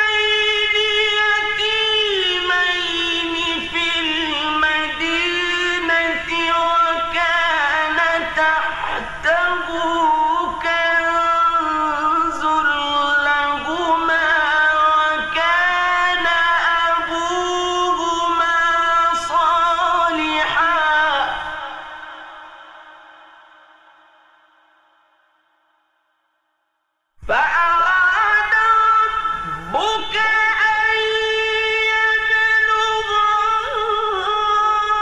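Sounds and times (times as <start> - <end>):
man chanting melodically: 0.0 - 22.8, 27.2 - 35.0.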